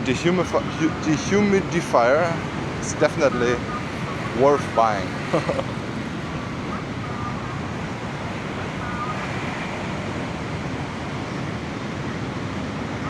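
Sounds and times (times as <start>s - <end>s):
road traffic: 0.0s - 13.0s
sea surf: 0.0s - 13.0s
wind: 0.0s - 13.0s.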